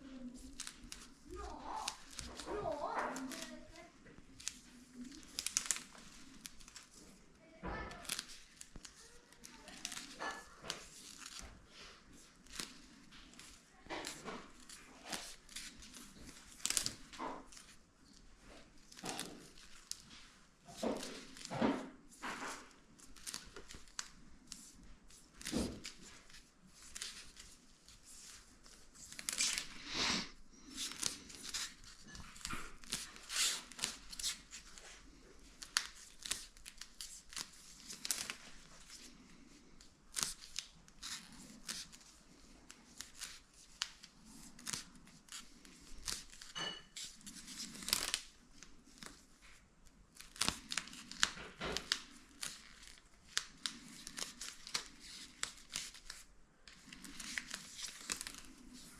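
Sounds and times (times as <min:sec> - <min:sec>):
sealing strip tearing and crinkling: 0:00.1 - 0:58.9.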